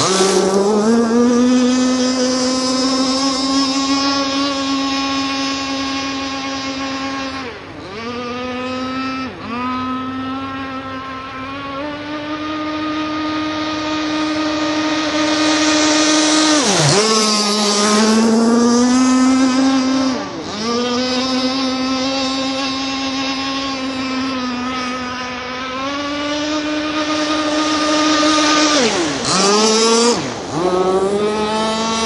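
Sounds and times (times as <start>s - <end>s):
model boat motor whine: 0.0s - 32.0s.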